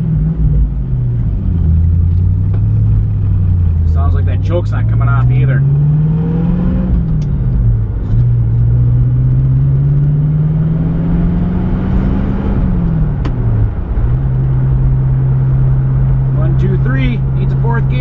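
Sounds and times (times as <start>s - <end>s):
car engine revving under load: 0.0s - 18.0s.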